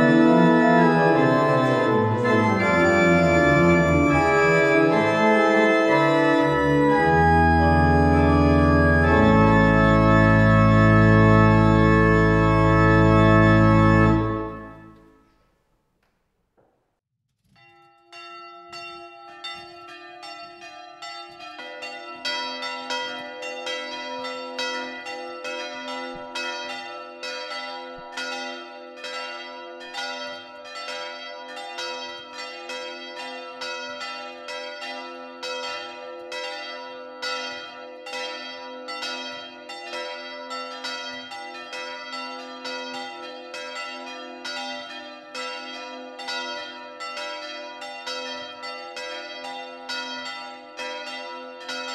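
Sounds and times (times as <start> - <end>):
church bells ringing: 0.0 - 15.1, 17.6 - 51.9.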